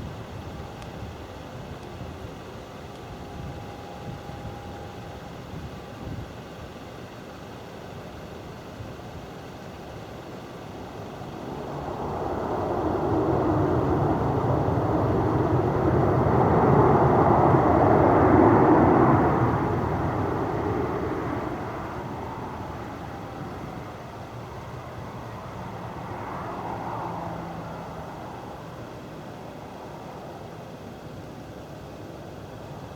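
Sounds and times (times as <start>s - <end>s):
jet airliner engine noise: 0.0s - 32.9s.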